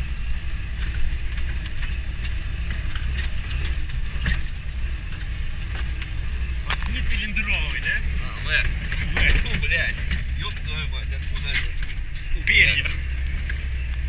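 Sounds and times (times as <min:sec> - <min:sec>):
truck engine droning: 0:00.0 - 0:14.0
cab rattles and knocks: 0:00.6 - 0:13.8.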